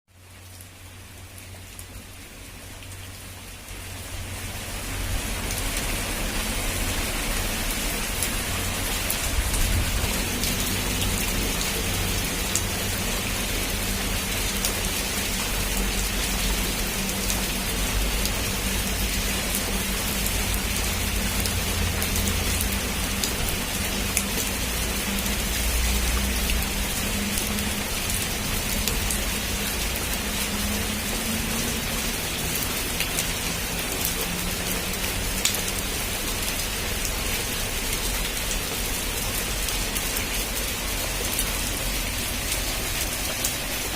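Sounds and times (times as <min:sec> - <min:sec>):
heavy rain on a roof: 0:00.1 - 0:43.9.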